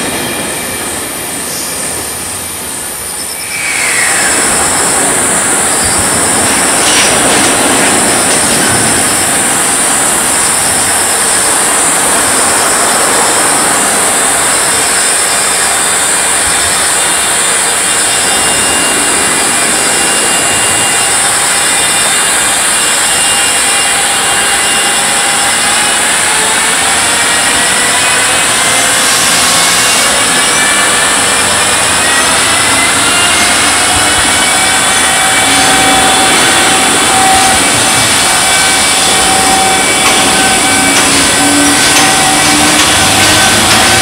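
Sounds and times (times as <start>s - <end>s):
faint whine climbing in pitch: 0.0s - 44.0s
high-pitched buzz: 0.0s - 44.0s
locomotive equipment rushing: 0.0s - 44.0s.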